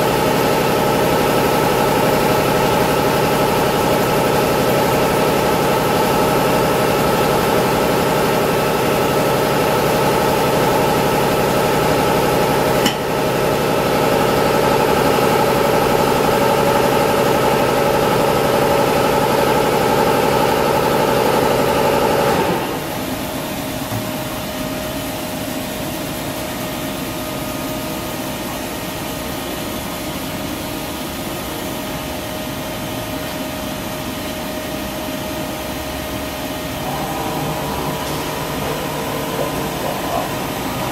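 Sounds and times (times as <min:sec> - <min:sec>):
machining center humming: 0:00.0 - 0:26.0, 0:33.2 - 0:40.9.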